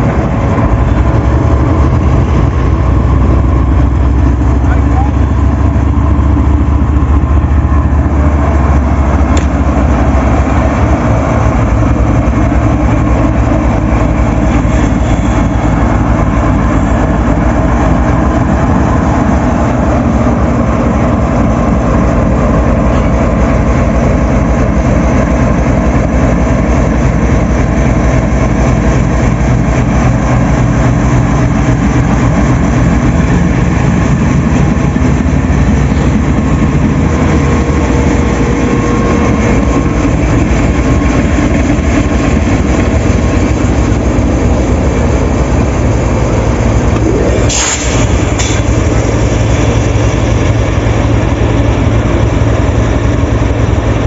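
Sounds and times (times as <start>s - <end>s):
locomotive diesel engine idling: 0.0s - 54.0s.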